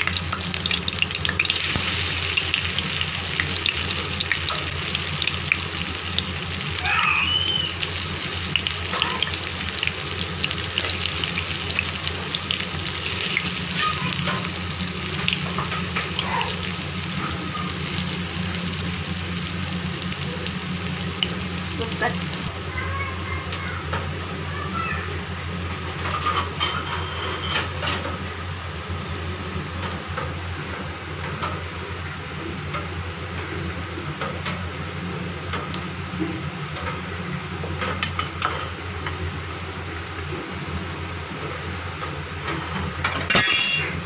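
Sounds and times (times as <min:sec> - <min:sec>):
oil sizzling and crackling: 0:00.0 - 0:44.0.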